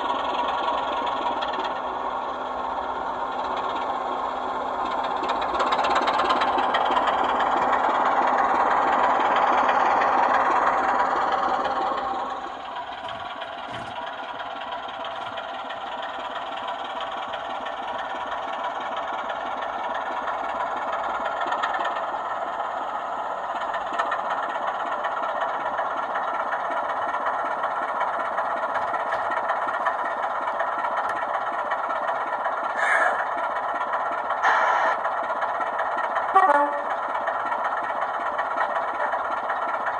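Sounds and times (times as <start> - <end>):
diesel engine from speakers: 0.0 - 39.9.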